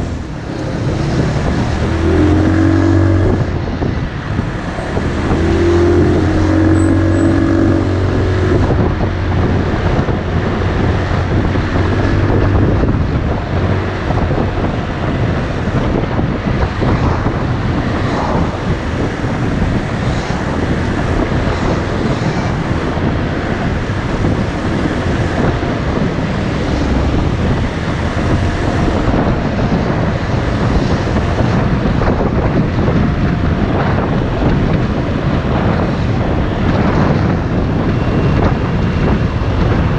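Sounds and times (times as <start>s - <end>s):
motorcycle engine running: 0.0s - 39.6s
road noise: 0.0s - 39.9s
wind on microphone: 0.0s - 39.9s.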